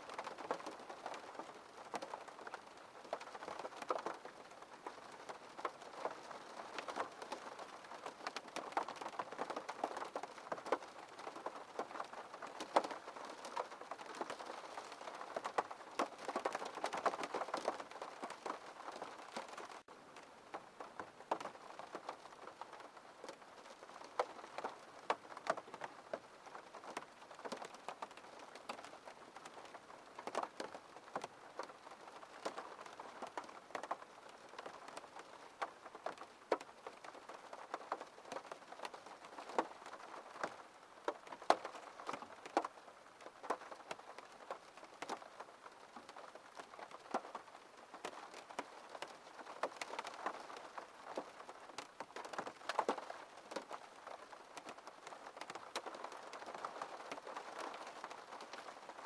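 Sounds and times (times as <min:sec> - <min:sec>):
rain hissing on window: 0:00.0 - 0:59.0
raindrops tapping: 0:00.1 - 0:59.0.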